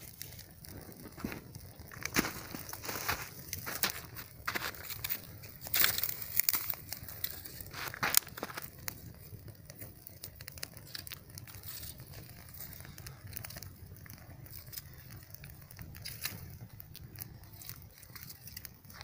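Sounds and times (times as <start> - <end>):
twig fire crackling and popping: 0.0 - 19.0.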